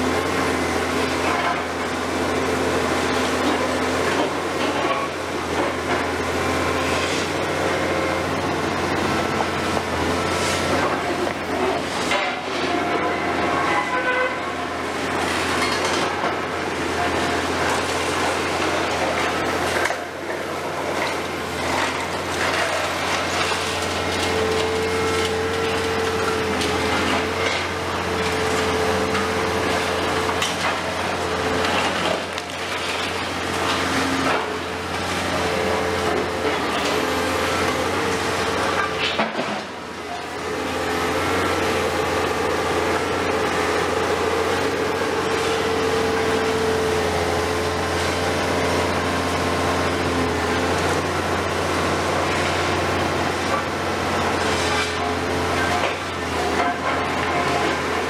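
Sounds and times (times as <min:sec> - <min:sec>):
excavator engine drone: 0:00.0 - 0:58.0.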